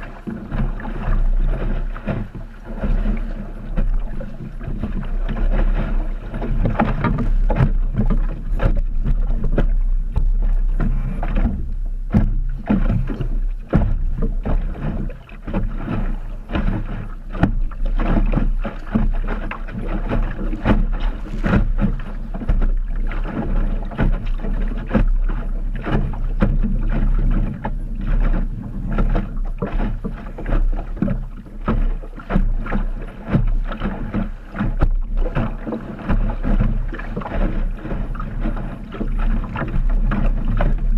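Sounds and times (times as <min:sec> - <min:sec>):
steady low rumble: 0:00.0 - 0:40.9
water slapping against hull: 0:00.0 - 0:40.9.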